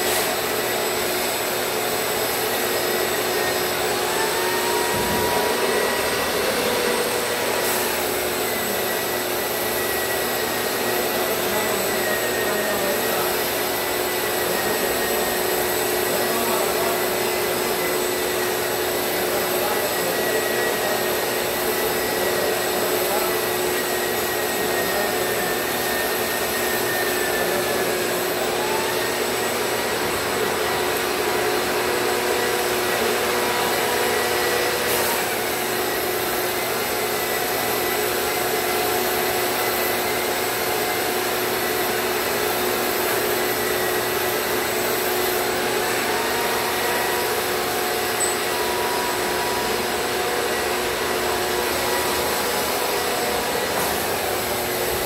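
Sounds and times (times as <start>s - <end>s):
shop vacuum and sander humming: 0.0s - 55.0s.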